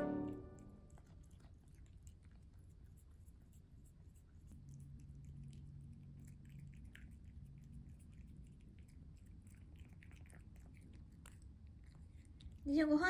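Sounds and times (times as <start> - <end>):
cat chewing and licking: 0.6 - 13.0.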